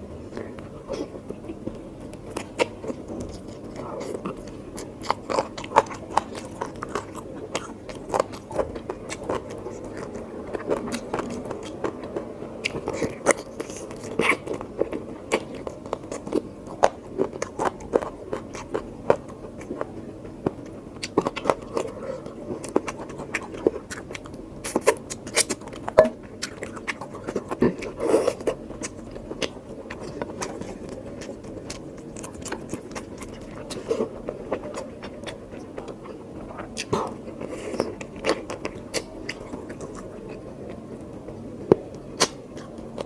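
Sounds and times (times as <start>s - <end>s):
wet chewing with lip smacks: 0.2s - 43.0s.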